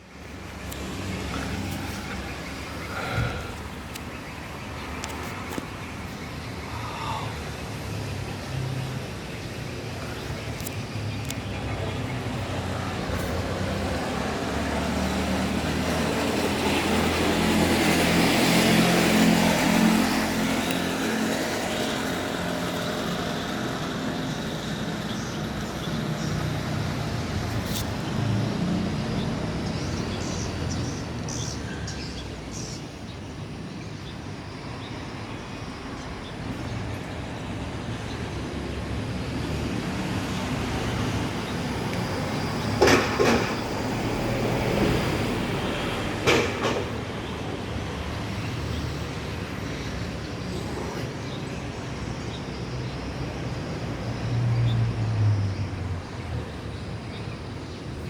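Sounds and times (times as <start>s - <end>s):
jet airliner droning overhead: 0.1s - 54.6s.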